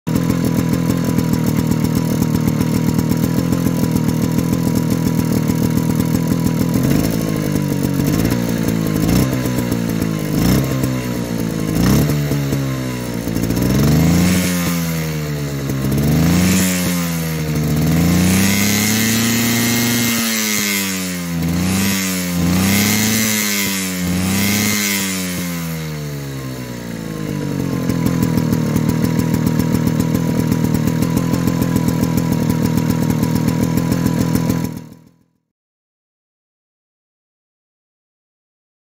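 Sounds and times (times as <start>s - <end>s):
stationary engine idling and revving: 0.1s - 35.2s.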